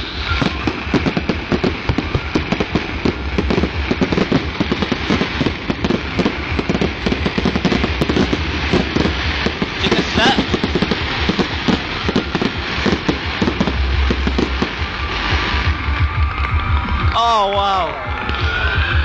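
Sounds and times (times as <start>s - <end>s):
fireworks shells bursting: 0.0s - 17.0s
fireworks crackling: 0.0s - 19.0s.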